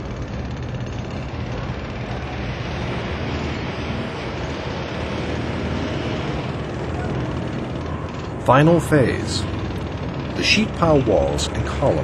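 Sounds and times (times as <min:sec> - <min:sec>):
mechanical engine drone: 0:00.0 - 0:12.0.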